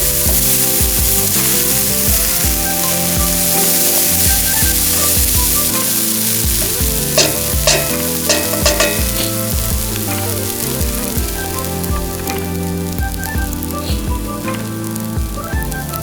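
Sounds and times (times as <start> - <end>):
background music: 0.0 - 16.0
steak sizzling in frying pan: 0.0 - 16.0.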